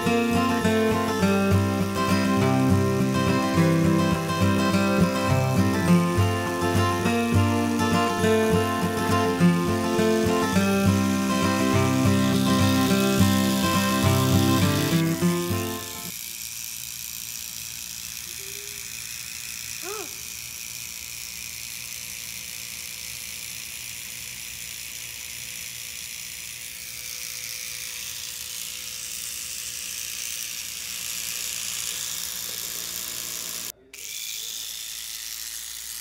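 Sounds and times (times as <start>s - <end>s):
electric toothbrush buzzing: 0.0s - 36.0s.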